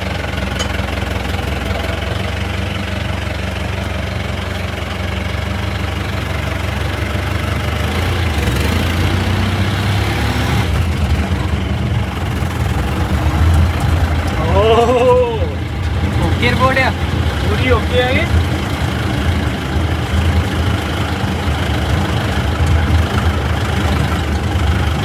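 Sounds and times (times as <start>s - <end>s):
jeep engine running: 0.0s - 25.0s.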